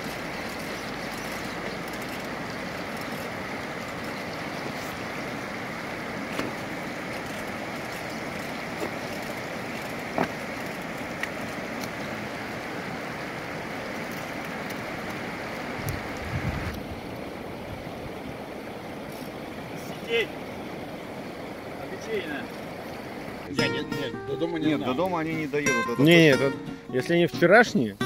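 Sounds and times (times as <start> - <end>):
river water rushing: 0.0 - 26.8.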